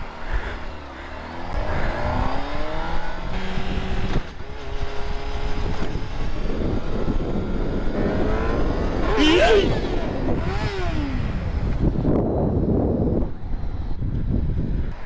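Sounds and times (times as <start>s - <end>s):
low wind rumble: 0.0s - 15.0s
motorcycle engine accelerating: 0.0s - 15.0s.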